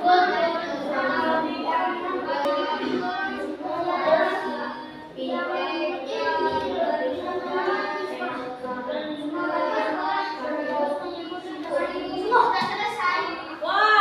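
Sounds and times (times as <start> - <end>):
children reading aloud in unison: 0.0 - 14.0.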